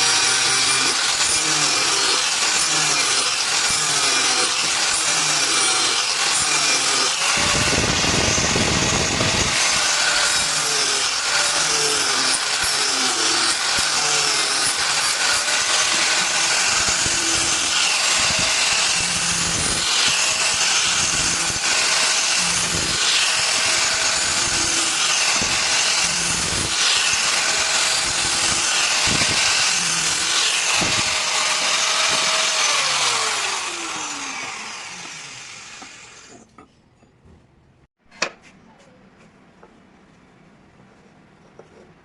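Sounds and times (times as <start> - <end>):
electric grinder grinding steel: 0.0 - 36.5.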